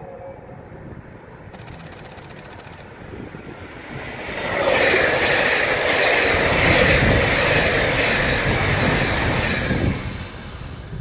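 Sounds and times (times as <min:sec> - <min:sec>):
express train passing: 0:00.0 - 0:11.0.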